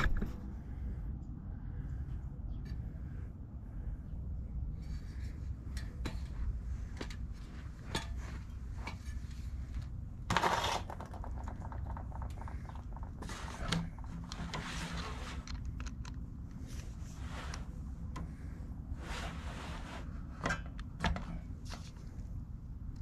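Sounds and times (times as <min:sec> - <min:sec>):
low steady rumble: 0:00.0 - 0:23.0.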